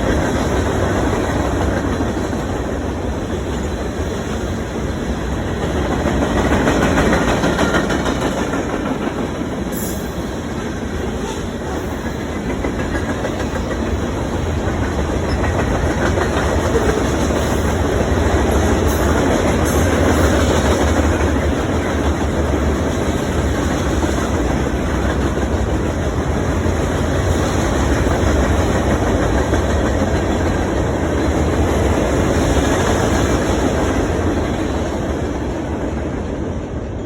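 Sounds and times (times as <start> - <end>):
freight train rumbling past: 0.0 - 37.0.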